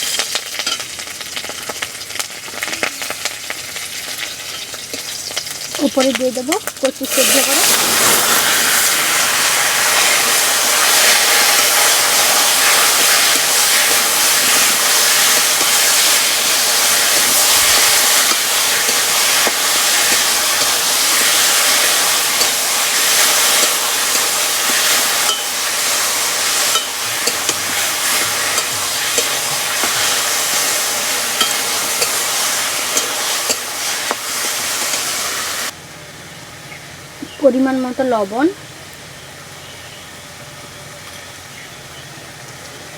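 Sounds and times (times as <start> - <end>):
leaves sizzling in hot oil: 0.0 - 42.9.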